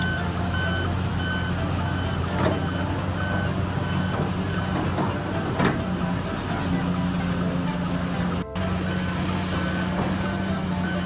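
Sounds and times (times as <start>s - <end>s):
back-up alarm beeping: 0.0s - 11.0s
diesel engine running: 0.0s - 11.0s.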